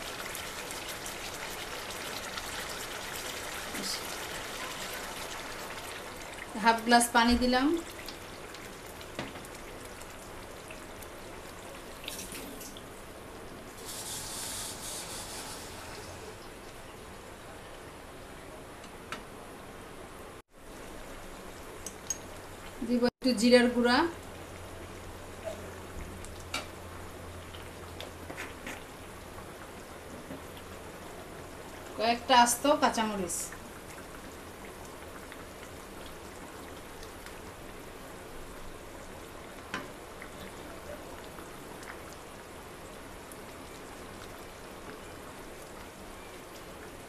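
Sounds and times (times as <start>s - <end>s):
curry simmering and bubbling: 0.0s - 18.0s, 24.1s - 47.0s.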